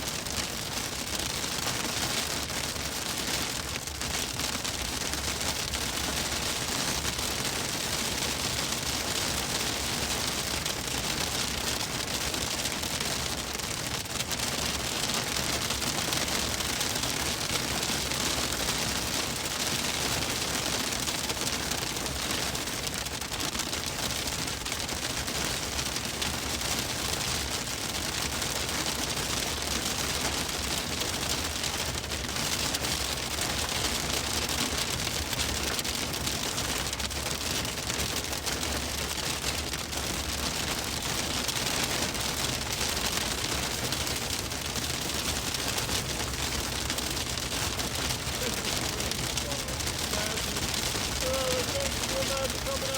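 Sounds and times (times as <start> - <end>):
hail pelting car roof: 0.1 - 52.9.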